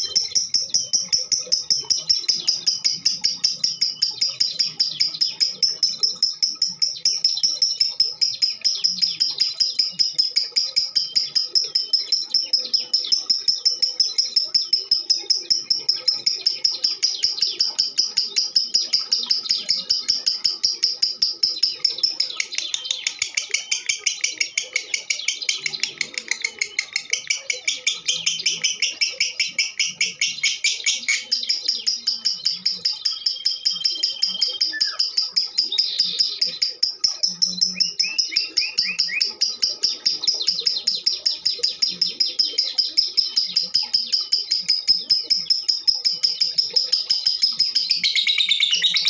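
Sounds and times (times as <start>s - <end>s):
lovebird chirping rapidly: 0.0s - 49.0s.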